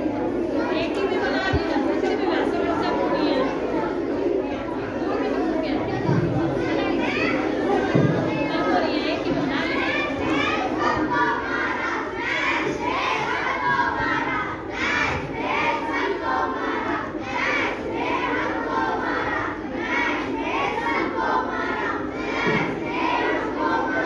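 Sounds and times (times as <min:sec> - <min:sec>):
crowd of schoolchildren: 0:00.0 - 0:24.0.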